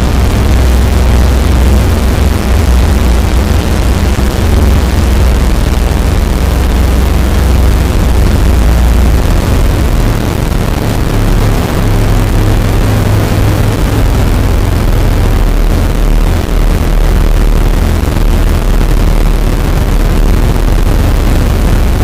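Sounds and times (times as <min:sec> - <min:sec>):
heavy noisy wash: 0:00.0 - 0:22.0
low engine rumble: 0:00.0 - 0:22.0.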